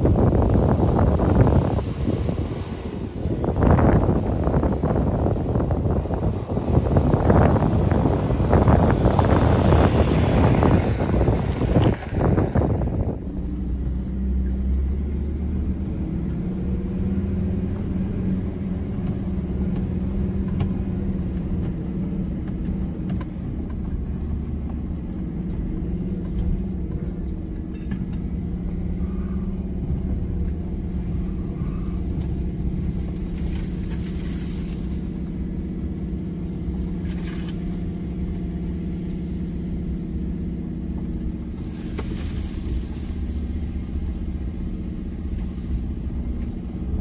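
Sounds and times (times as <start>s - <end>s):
truck engine droning: 0.0s - 47.0s.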